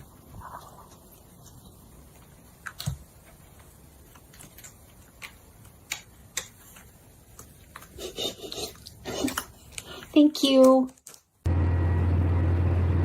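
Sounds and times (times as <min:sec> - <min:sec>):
low room noise: 0:00.0 - 0:13.0.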